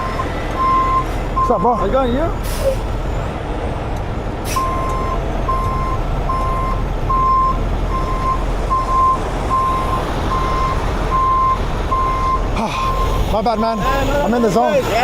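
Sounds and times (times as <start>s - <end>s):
truck reversing alarm beeping: 0.0s - 3.3s, 4.5s - 15.0s
diesel trucks idling: 0.0s - 15.0s.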